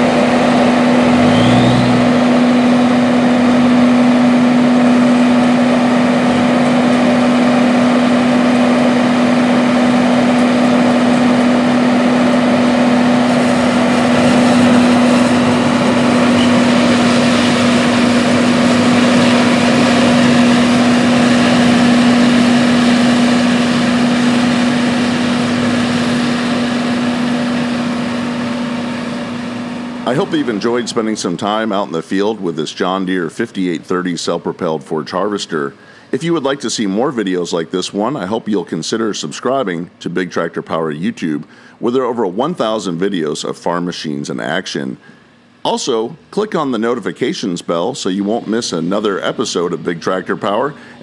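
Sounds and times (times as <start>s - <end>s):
forage harvester engine droning: 0.0s - 51.0s.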